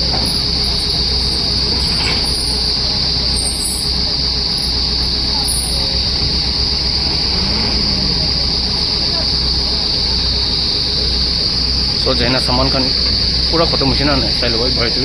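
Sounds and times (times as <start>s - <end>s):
insect chorus drone: 0.0s - 15.0s
low steady rumble: 0.0s - 15.0s.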